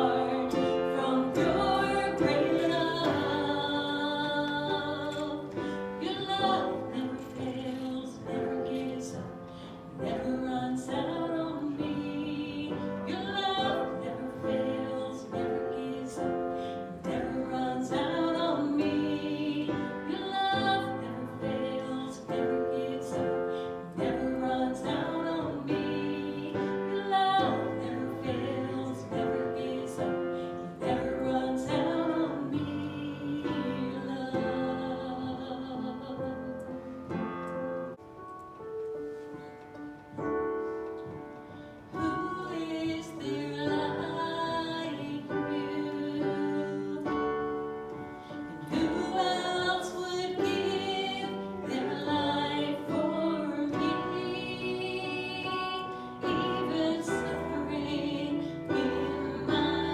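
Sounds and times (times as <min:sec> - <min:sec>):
people singing worship song: 0:00.0 - 0:37.2, 0:41.4 - 0:59.9
piano accompaniment: 0:00.0 - 0:59.9.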